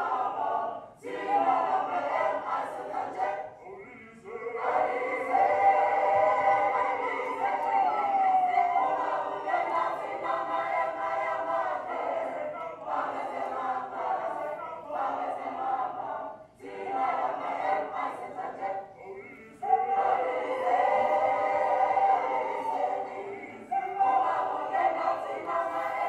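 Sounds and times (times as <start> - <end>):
choir singing over speakers: 0.0 - 26.0.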